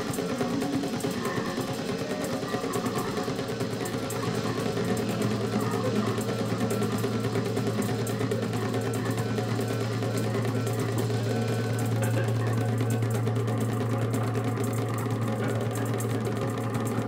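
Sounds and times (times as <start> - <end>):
fast ticking pulse: 0.0 - 17.0.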